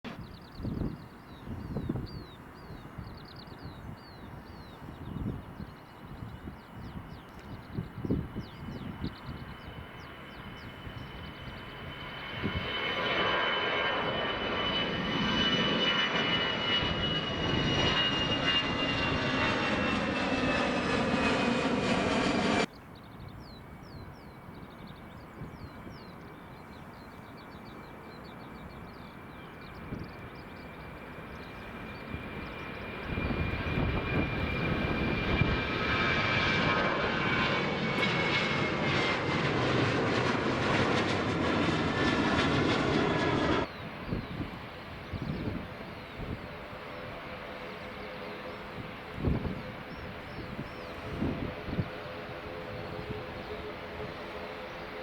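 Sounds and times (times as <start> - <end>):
distant engine hum: 0.1 - 55.0
jet engines at take-off: 0.1 - 55.0.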